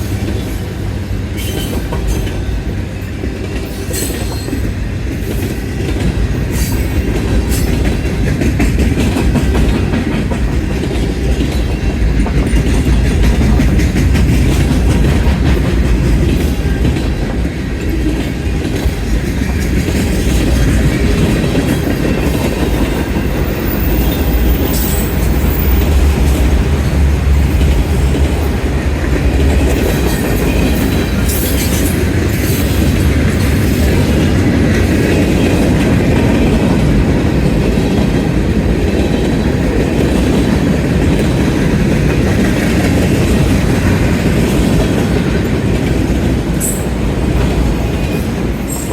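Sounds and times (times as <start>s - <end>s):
freight train rumbling: 0.0s - 48.9s
train wheels clacking on rails: 0.0s - 48.9s.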